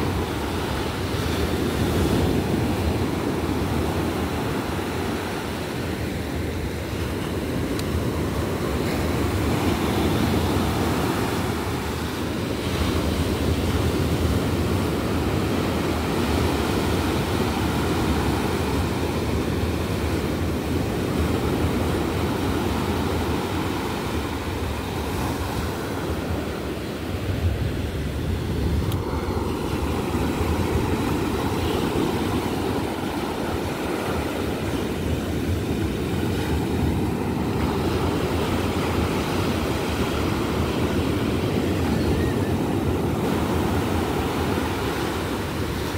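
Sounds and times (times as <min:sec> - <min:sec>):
ocean waves breaking on beach: 0:00.0 - 0:45.9.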